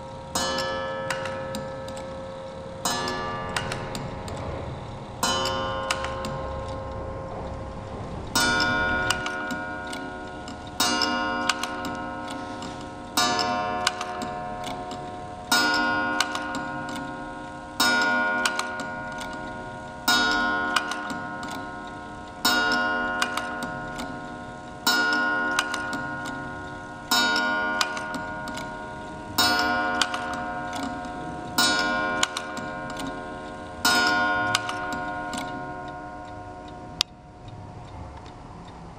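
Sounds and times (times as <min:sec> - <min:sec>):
clock strike ringing: 0:00.0 - 0:37.4
clock mechanism ticks: 0:00.0 - 0:38.9.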